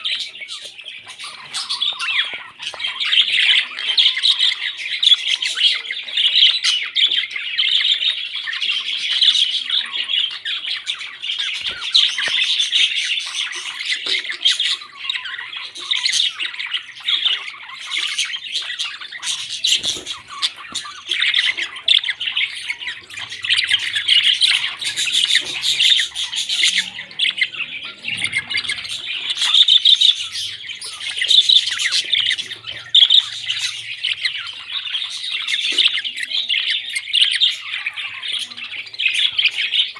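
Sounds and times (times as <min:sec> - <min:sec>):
parrots squawking and chattering: 0:00.0 - 0:39.9.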